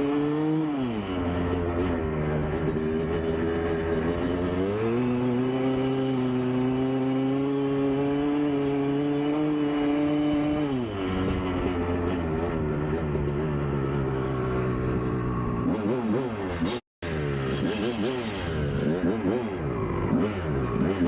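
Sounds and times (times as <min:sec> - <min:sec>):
two-stroke motorcycle engine revving: 0:00.0 - 0:21.0.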